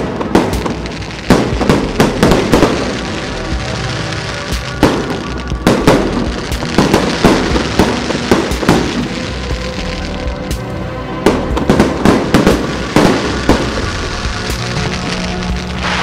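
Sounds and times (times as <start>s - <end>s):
background music: 0.0s - 16.0s
fireworks bangs and crackles: 0.0s - 16.0s.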